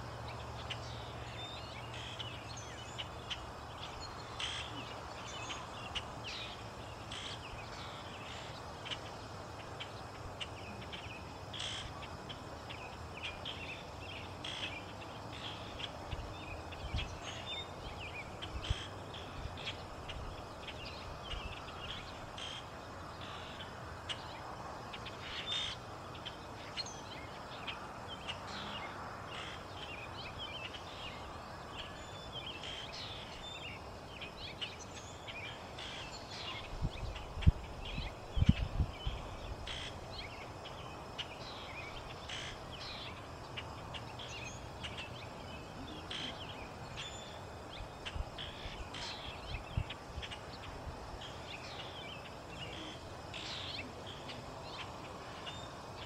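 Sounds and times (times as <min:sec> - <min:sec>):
small birds chirping: 0:00.0 - 0:56.0
steady outdoor hiss: 0:00.0 - 0:56.0.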